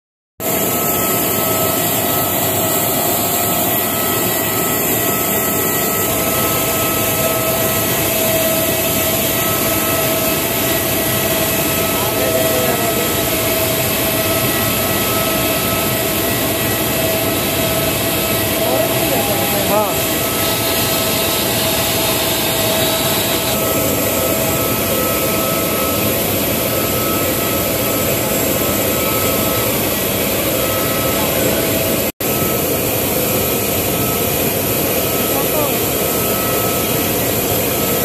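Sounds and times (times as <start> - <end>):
jet engines running: 0.4 - 38.0.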